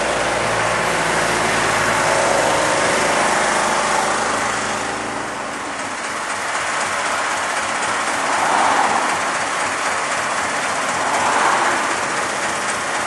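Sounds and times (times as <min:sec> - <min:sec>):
road train rushing noise: 0:00.0 - 0:13.0.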